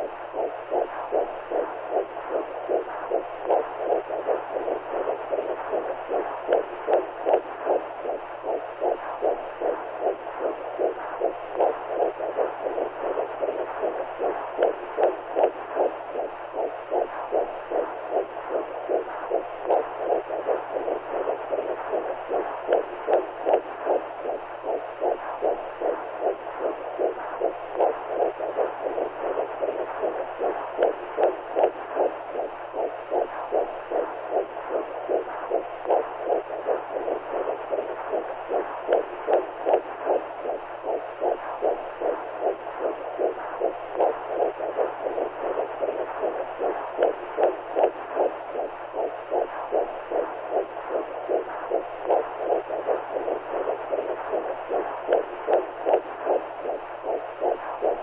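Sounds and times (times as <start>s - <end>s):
faint low hum: 0.0s - 58.0s
whooshing heartbeat pulse: 0.0s - 58.0s.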